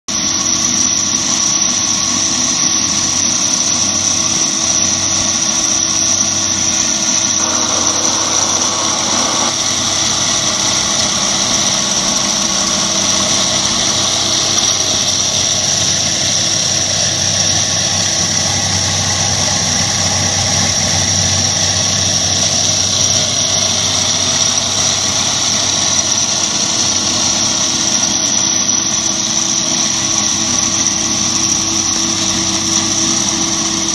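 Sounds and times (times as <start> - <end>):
concrete milling machine grinding: 2.6 - 33.9
high motor whine: 2.7 - 33.9.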